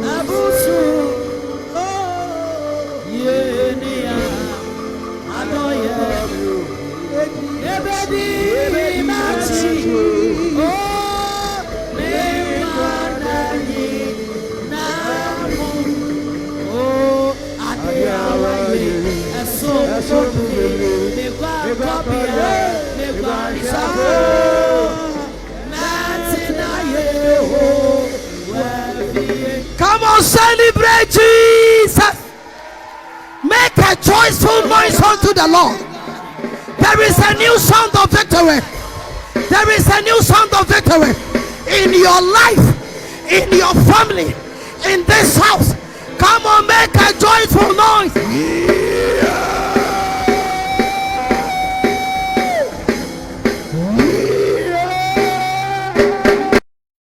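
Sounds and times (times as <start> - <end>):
band playing: 0.0 - 56.6
congregation singing gospel song: 0.0 - 56.6.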